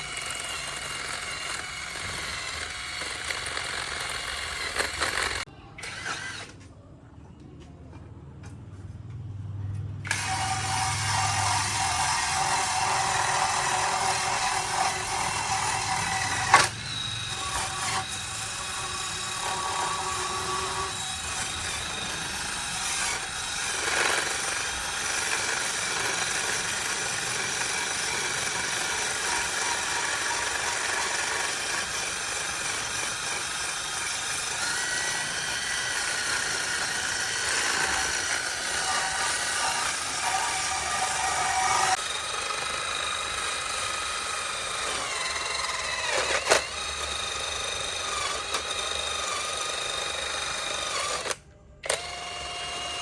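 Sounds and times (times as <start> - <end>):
power tool whining: 0.0 - 6.6, 10.1 - 53.0.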